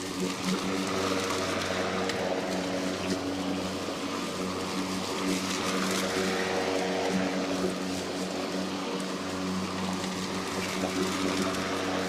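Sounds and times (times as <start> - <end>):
electric lawnmower motor humming: 0.0 - 12.0.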